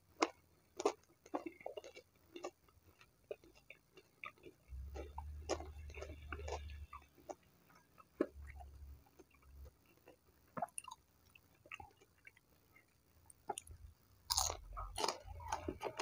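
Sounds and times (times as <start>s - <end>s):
mouth chewing clicks and smacks: 0.2s - 16.0s.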